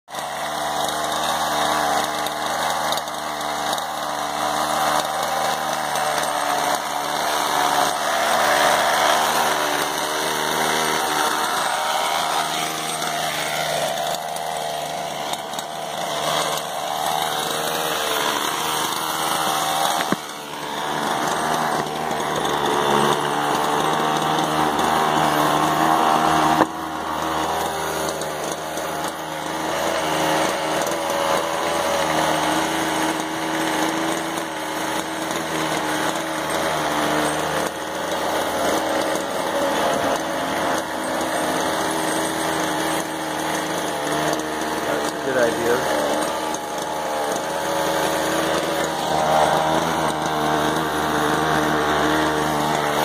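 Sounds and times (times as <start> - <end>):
small two-stroke engine revving: 0.1 - 53.0.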